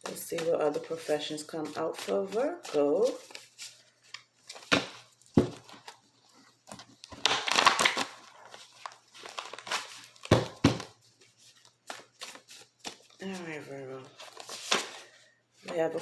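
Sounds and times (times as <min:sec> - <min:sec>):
cards shuffling: 0:00.0 - 0:16.0.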